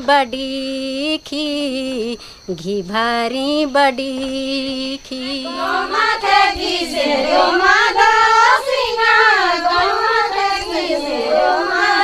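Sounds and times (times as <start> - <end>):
woman singing folk song: 0.0 - 12.0.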